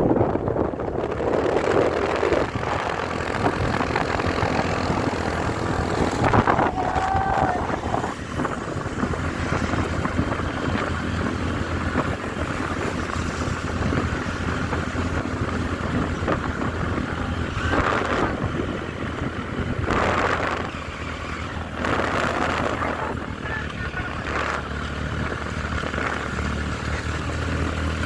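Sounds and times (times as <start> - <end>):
road noise: 0.0 - 28.0
vehicle engine running: 0.0 - 28.0
wind rushing over microphone: 0.0 - 28.0.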